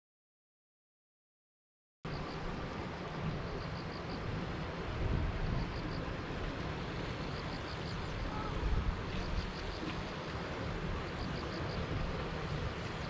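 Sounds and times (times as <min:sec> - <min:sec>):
wind buffeting microphone: 0:02.1 - 0:13.0.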